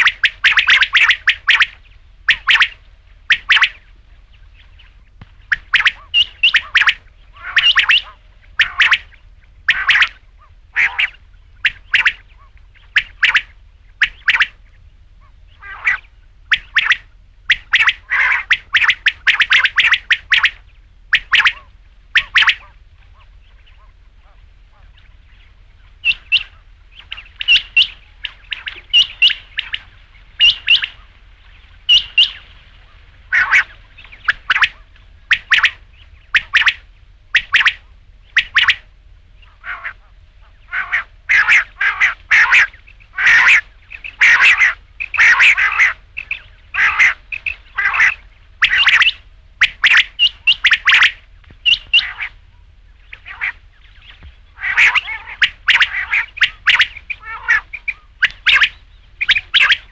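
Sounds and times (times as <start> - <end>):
quail calling: 0.0 - 59.9.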